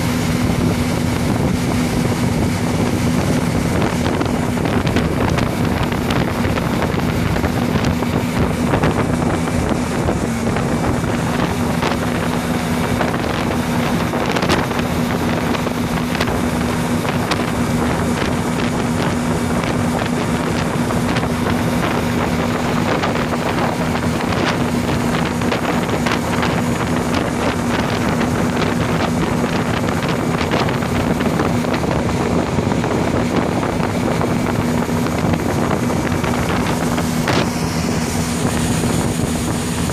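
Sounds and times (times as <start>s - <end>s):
boat engine humming: 0.0s - 39.9s
churning boat wake: 0.0s - 39.9s
wind buffeting microphone: 0.0s - 39.9s.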